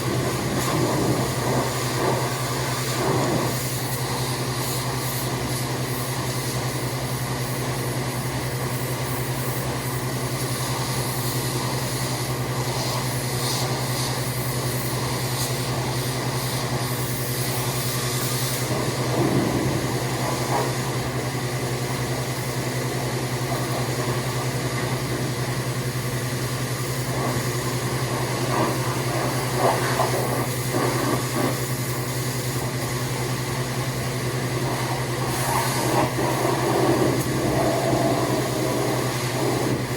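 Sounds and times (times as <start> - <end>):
hissing water spray: 0.0 - 39.9
pressure washer motor running: 0.0 - 39.9.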